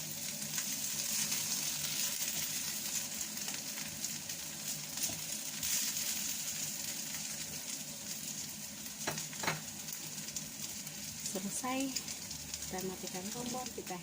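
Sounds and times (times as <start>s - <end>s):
noodles sizzling in a hot pan: 0.0s - 14.0s.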